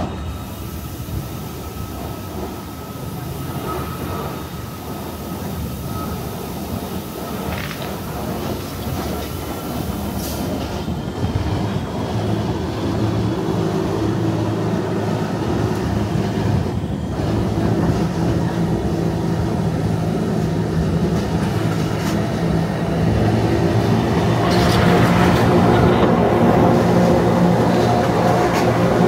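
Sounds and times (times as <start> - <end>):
electric train rumbling: 0.0 - 29.0.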